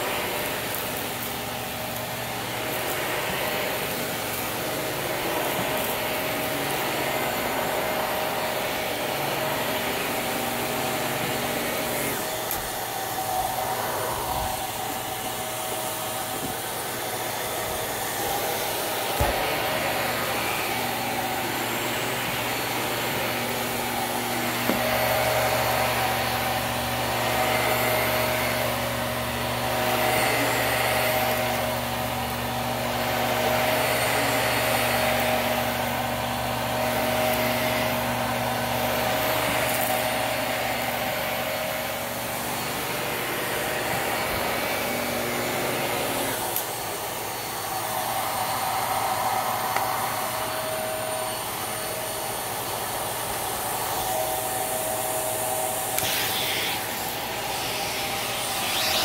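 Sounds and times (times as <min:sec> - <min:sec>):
vacuum cleaner running on carpet: 0:00.0 - 0:59.0.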